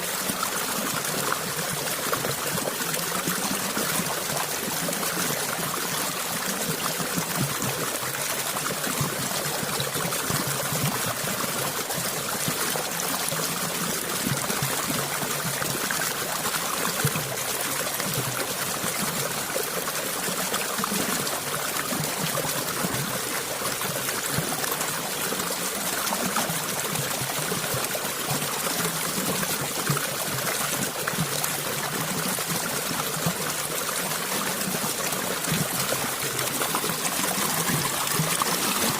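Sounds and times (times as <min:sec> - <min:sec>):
shallow stream flowing: 0:00.0 - 0:38.9.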